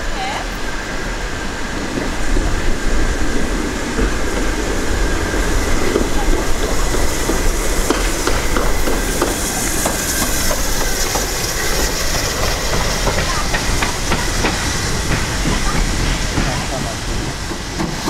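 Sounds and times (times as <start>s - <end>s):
steam hissing: 0.0s - 18.0s
steam locomotive wheels rumbling: 0.0s - 18.0s.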